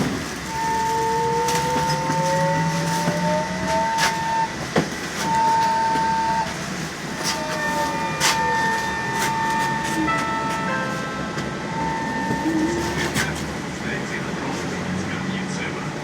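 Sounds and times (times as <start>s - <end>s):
electric traction drive whining: 0.0s - 15.7s
road noise: 0.0s - 16.0s.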